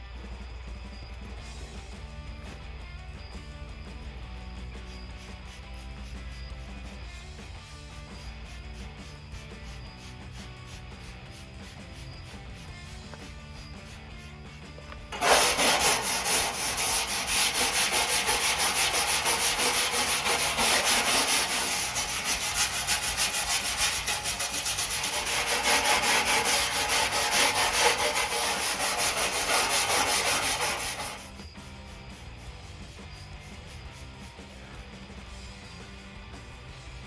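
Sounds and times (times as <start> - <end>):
sanding sheet metal: 4.7 - 34.9.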